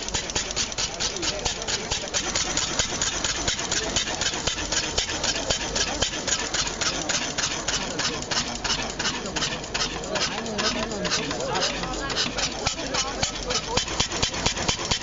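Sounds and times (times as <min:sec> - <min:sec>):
engine chugging steadily: 0:00.0 - 0:15.0.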